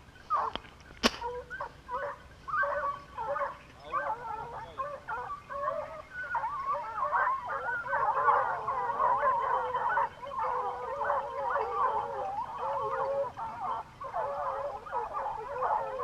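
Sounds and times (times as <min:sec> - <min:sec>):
hounds baying: 0:00.0 - 0:00.6, 0:01.2 - 0:16.0.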